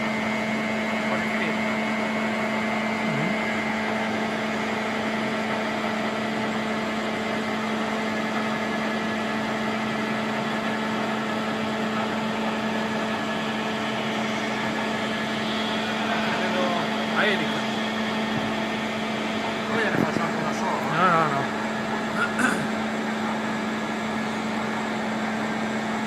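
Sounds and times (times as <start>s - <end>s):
milling machine humming: 0.0s - 26.0s.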